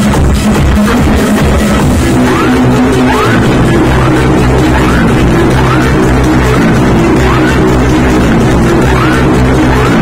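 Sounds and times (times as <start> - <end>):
electronic dance music with heavy bass: 0.0 - 10.0
rising synth sweep: 0.9 - 10.0.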